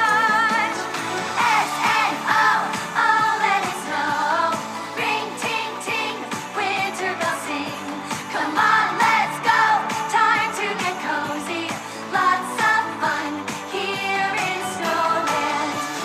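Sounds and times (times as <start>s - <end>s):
pop song with singing: 0.0s - 16.0s.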